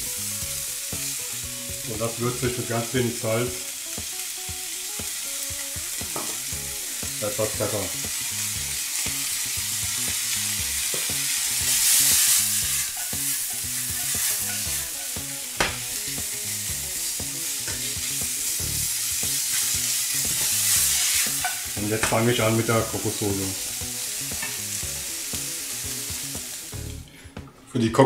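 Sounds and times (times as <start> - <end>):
vegetables sizzling in a frying pan: 0.0 - 27.0.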